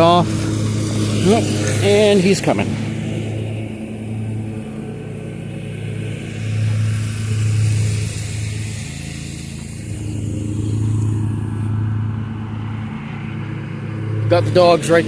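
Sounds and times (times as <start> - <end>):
riding mower engine cutting grass: 0.0 - 15.0.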